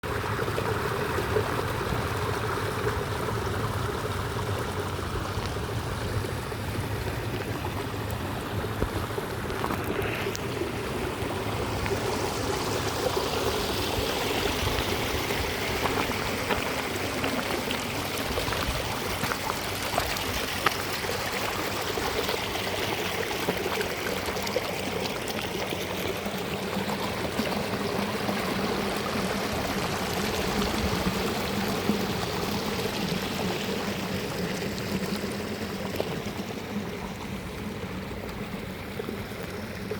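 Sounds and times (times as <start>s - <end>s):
water splashing into a lake: 0.0s - 39.9s
small splashes and drips: 0.2s - 39.9s.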